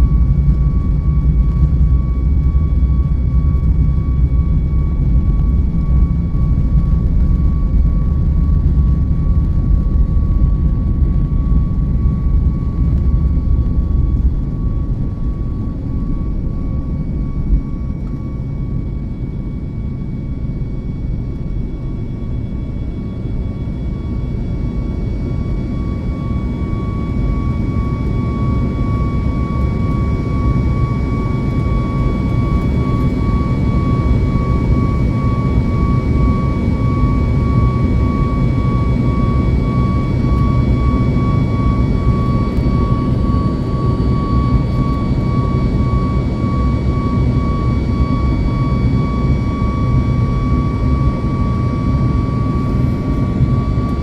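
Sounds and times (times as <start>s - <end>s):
jet engines in cabin: 0.0s - 54.0s.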